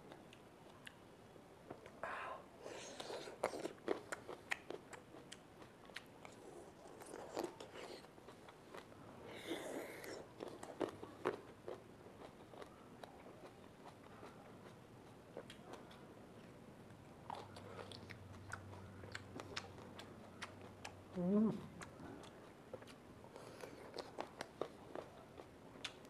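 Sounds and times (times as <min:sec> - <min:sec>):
biting and chewing grapes: 0:02.7 - 0:26.0.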